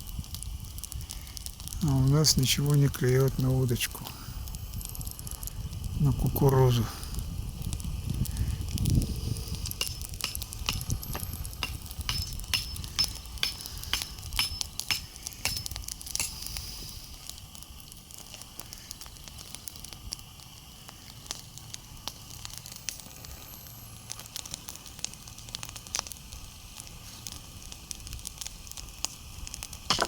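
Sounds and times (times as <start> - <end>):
campfire crackling: 0.0 - 30.0
low steady rumble: 0.0 - 30.0.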